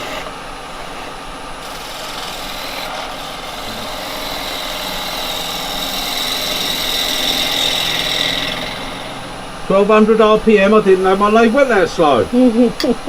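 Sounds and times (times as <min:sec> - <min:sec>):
chisel scraping spinning wood: 0:00.0 - 0:12.2
high whine: 0:00.0 - 0:13.0
lathe motor hum: 0:00.0 - 0:13.0.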